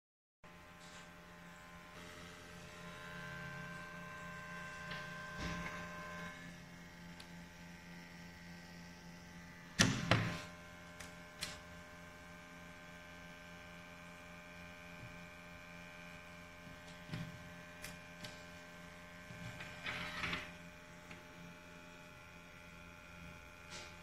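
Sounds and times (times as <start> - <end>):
steady hum: 0.5 - 24.0.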